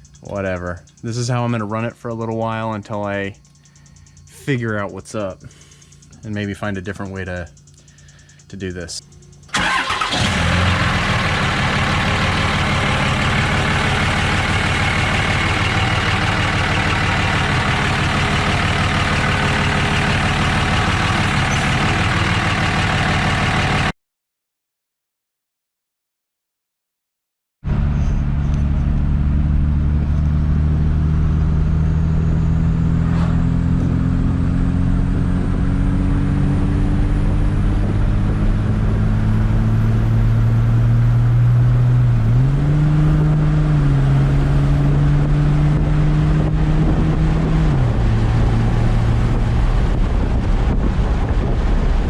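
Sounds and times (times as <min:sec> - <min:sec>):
diesel truck engine running: 0:00.0 - 0:23.9, 0:27.7 - 0:52.0.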